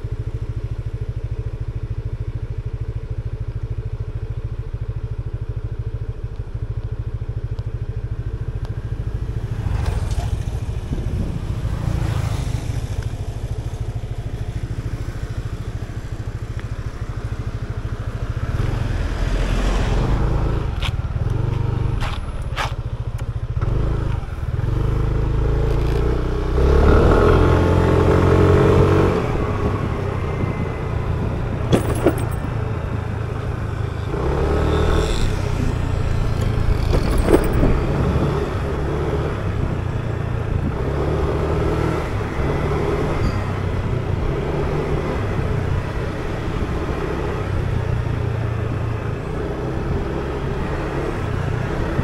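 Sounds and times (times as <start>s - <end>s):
motor scooter engine: 0.0s - 52.0s.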